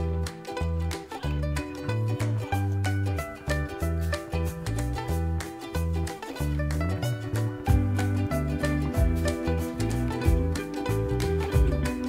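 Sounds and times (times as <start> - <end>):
upbeat music with bass: 0.0 - 12.0.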